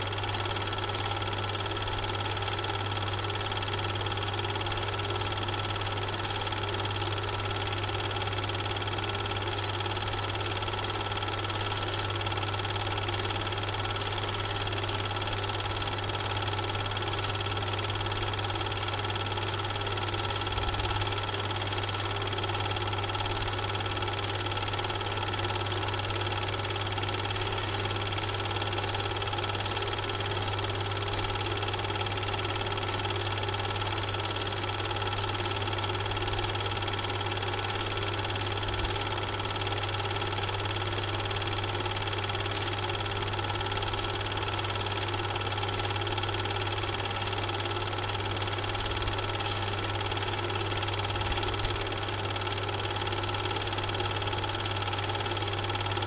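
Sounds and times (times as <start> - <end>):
film projector running: 0.0 - 56.0.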